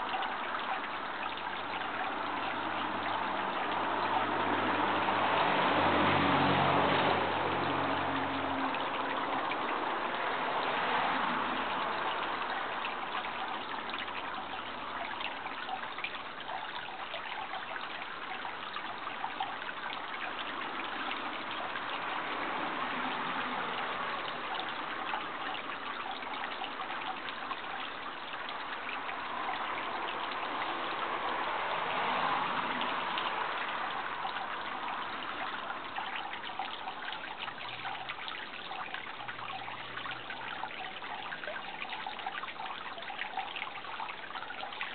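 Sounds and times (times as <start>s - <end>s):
running water trickling: 0.0s - 44.9s.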